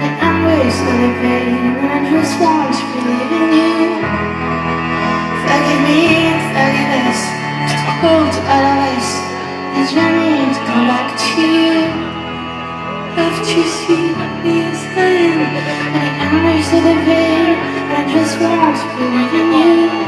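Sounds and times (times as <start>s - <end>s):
woman singing: 0.0s - 4.1s, 5.4s - 12.1s, 13.2s - 20.0s.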